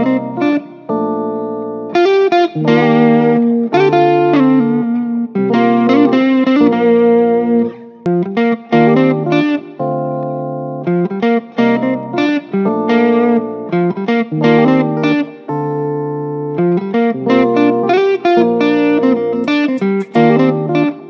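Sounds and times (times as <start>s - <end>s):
guitar-led tune: 0.0s - 21.0s.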